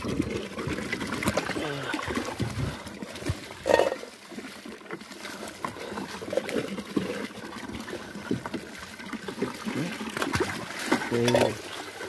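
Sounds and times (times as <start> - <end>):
water sloshing in plastic tub: 0.0 - 12.0.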